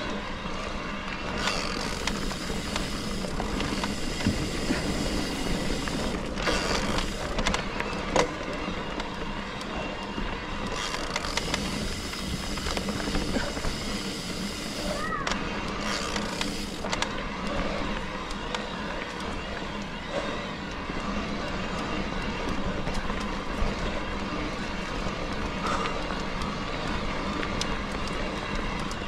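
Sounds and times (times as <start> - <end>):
bike rattling: 0.0 - 29.0
bike tyres rolling on dirt: 0.0 - 29.0.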